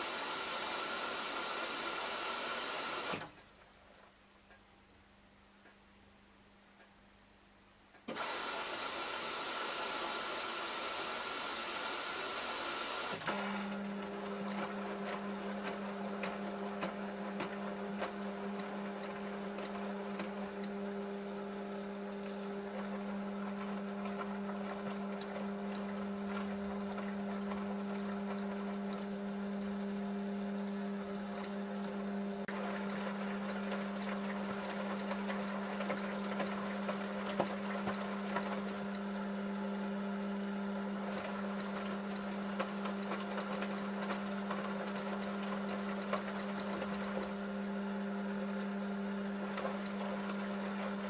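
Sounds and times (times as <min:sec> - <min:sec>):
washing machine motor hum: 0:00.0 - 0:03.4, 0:08.1 - 0:51.0.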